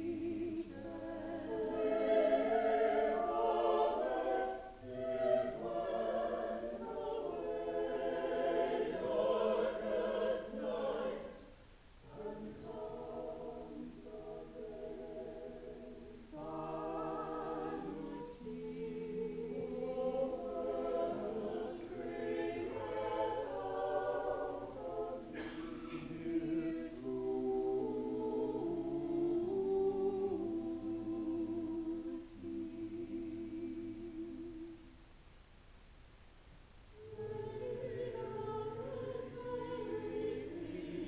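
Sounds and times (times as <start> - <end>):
choir singing held chords: 0.0 - 35.0, 37.0 - 41.0.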